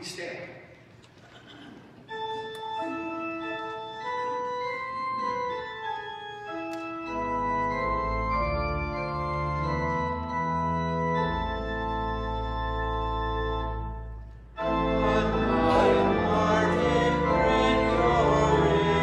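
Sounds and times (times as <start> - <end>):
organ chords: 1.9 - 19.0.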